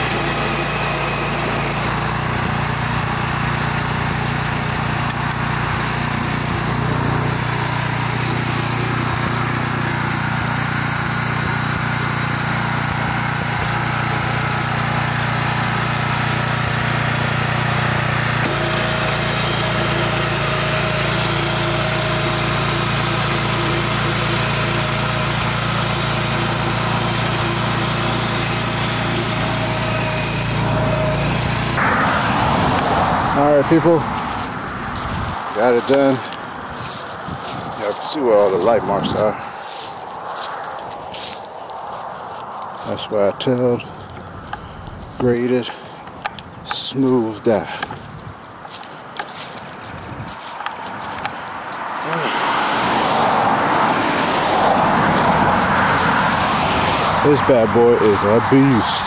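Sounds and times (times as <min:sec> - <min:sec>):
tiller engine running: 0:00.0 - 0:59.0
tines churning soil: 0:00.0 - 0:59.0.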